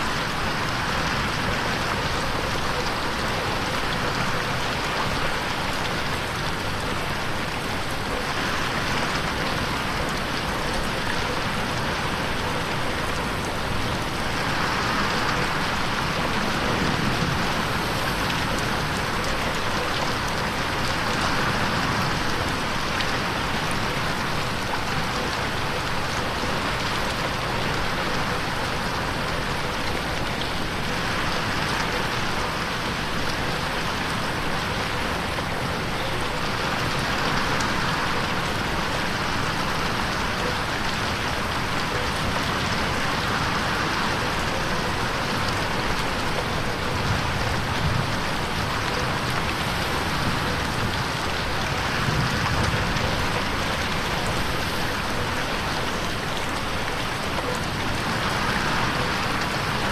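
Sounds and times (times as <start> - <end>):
rain pattering on window: 0.0 - 59.9.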